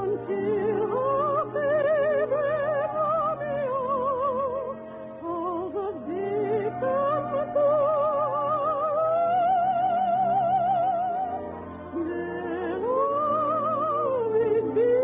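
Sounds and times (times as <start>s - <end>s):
soprano singing: 0.0s - 15.0s.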